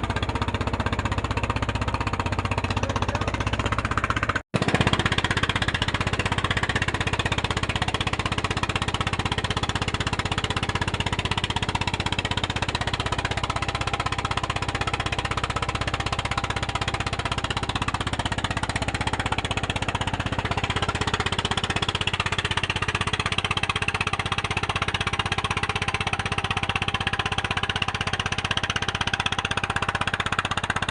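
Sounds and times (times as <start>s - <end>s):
boat engine chugging: 0.0s - 30.9s.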